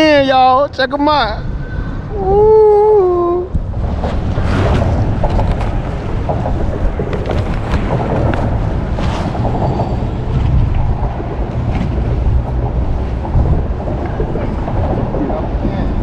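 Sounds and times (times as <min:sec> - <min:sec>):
wind: 0:00.0 - 0:16.0
water on a boat: 0:00.2 - 0:16.0.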